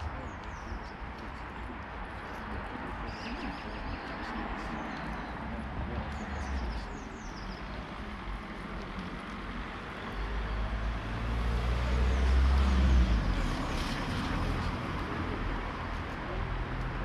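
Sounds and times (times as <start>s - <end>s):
vehicle passing on street: 1.2s - 17.0s.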